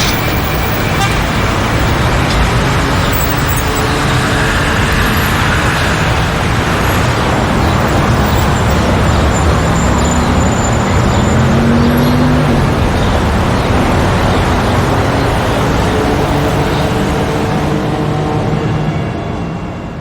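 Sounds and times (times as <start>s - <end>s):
dense traffic rumble: 0.0s - 20.0s
engine rising in pitch: 1.5s - 19.8s.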